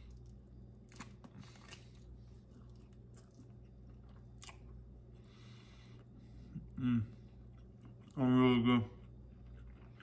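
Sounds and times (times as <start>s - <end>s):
man chewing food: 0.0s - 10.0s
steady low hum: 0.0s - 10.0s.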